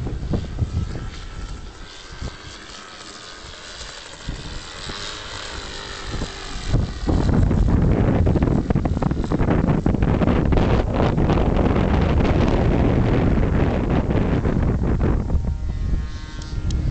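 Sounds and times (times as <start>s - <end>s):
model aeroplane motor buzzing: 0.0s - 16.9s
wind buffeting microphone: 0.0s - 16.9s.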